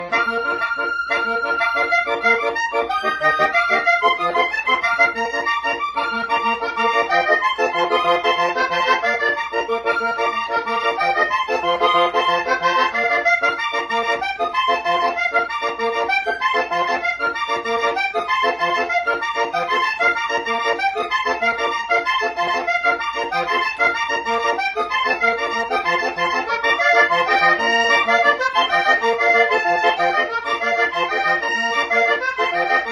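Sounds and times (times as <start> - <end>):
accordion playing a tune: 0.0 - 32.9.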